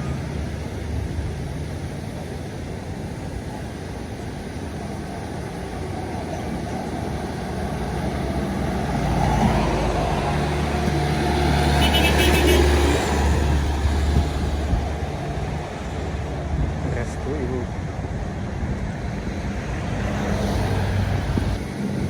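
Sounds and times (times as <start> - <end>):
heavy vehicle diesel engine: 0.0 - 22.0
road traffic: 0.0 - 22.0.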